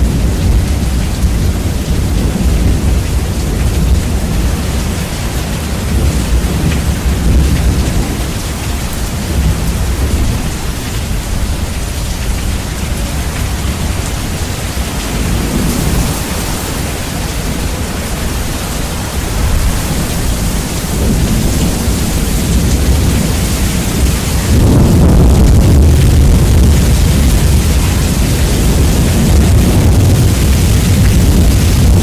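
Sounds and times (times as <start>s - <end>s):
steady rain: 0.0s - 32.0s
thunder rumbling: 0.0s - 32.0s.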